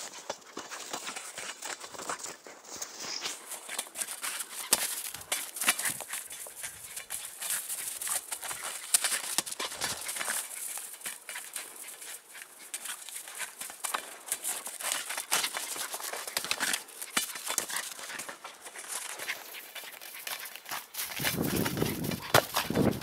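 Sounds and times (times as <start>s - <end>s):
footsteps crunching in snow: 0.0s - 23.0s.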